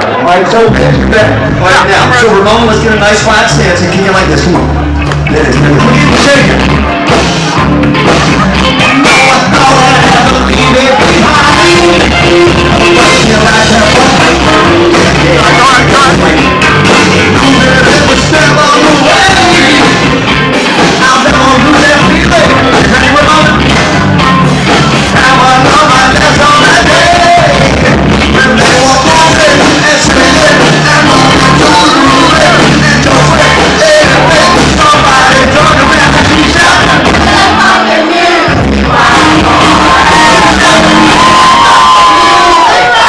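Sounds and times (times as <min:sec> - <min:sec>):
live rock band playing: 0:00.0 - 0:43.0.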